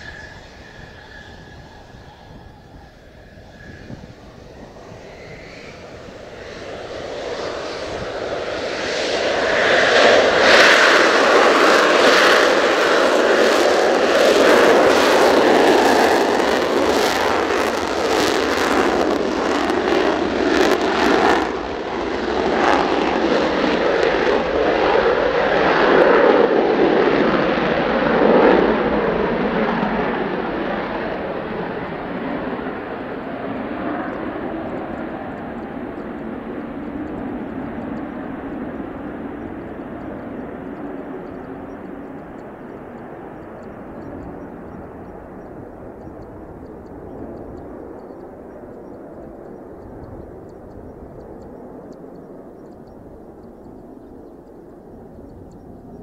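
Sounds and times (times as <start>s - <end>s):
jet taking off on afterburner: 0.0s - 56.0s
ragged crackle of jet noise: 0.0s - 56.0s.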